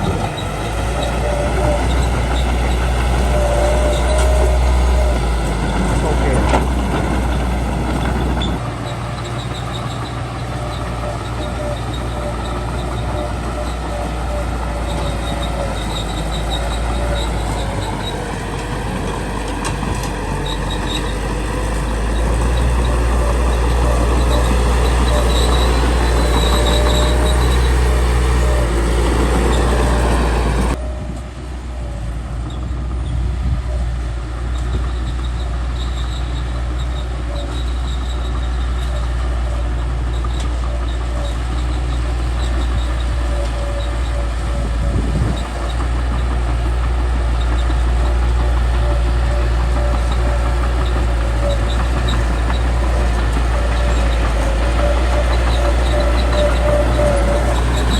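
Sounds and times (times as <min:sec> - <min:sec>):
bulldozer diesel engine running: 0:00.0 - 0:57.9
steel tracks clanking and squeaking: 0:00.0 - 0:57.9.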